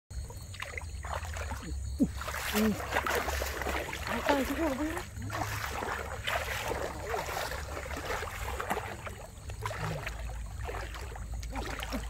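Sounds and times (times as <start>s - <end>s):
water sloshing around wading legs: 0.1s - 12.0s.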